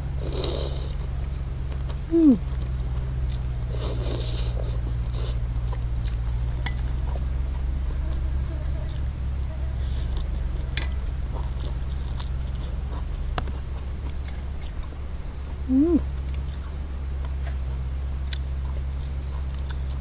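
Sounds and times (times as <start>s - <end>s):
person chewing and eating: 0.0s - 1.1s, 1.7s - 7.9s, 9.9s - 20.0s
low hum: 0.0s - 20.0s.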